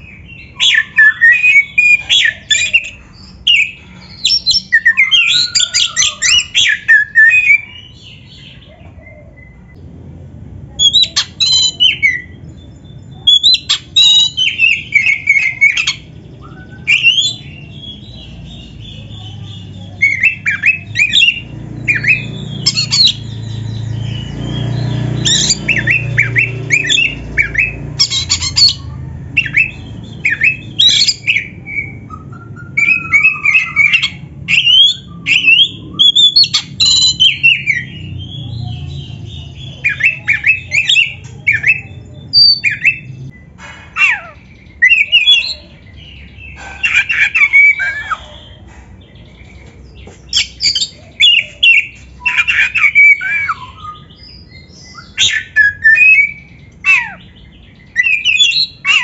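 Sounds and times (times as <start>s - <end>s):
bird singing whistled notes: 0.0s - 8.6s, 10.8s - 43.5s, 44.1s - 48.4s, 49.4s - 59.0s.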